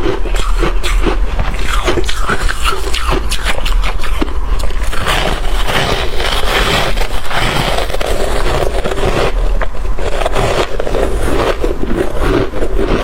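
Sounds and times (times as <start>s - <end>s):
chewing crunchy frost: 0.0s - 13.0s.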